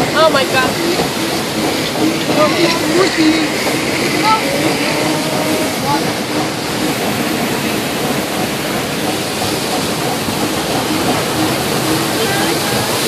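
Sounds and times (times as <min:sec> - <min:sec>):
water rushing around raft: 0:00.0 - 0:13.0.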